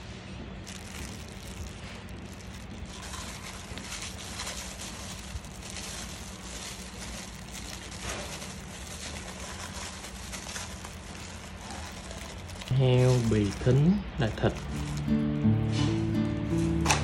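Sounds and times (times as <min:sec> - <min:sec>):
steady low hum: 0:00.0 - 0:16.9
gloved hand rustling food: 0:00.0 - 0:17.0.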